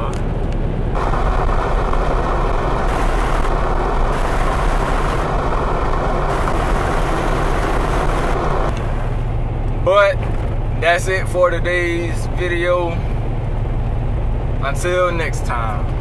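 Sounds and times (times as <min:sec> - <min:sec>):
low engine hum: 0:00.0 - 0:16.0
wind and road noise: 0:00.0 - 0:16.0.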